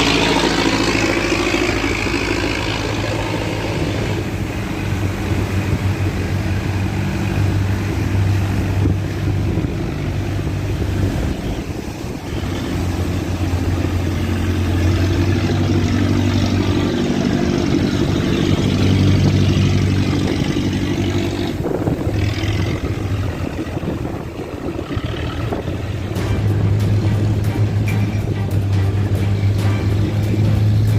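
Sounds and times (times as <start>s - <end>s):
boat engine running: 0.0s - 30.9s.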